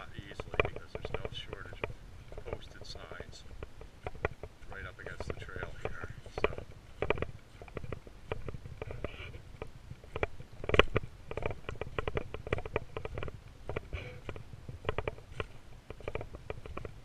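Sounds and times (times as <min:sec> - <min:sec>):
camera rumble: 0:00.0 - 0:17.0.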